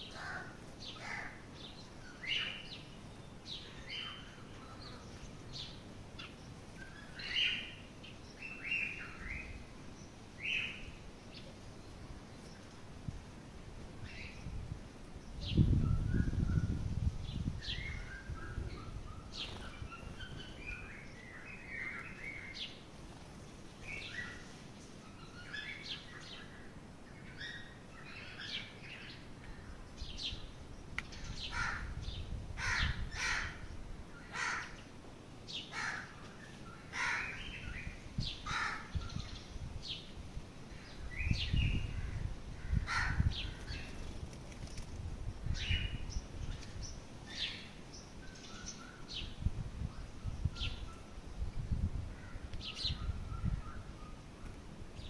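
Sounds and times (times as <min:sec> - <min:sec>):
birds chirping: 0:00.0 - 0:12.9, 0:14.0 - 0:40.1, 0:40.7 - 0:49.4.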